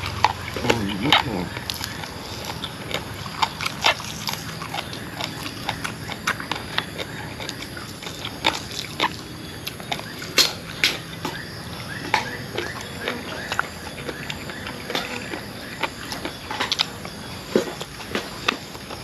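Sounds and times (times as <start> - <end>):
chewing and lip smacking: 0.0 - 19.0.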